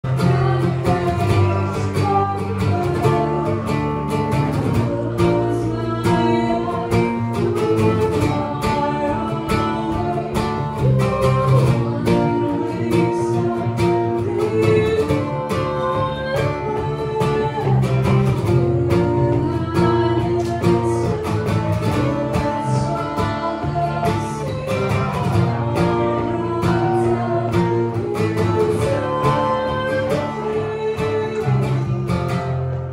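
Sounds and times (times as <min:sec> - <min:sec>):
person singing: 0:00.0 - 0:32.7
acoustic guitar: 0:00.0 - 0:32.9
electric bass guitar: 0:00.0 - 0:32.9.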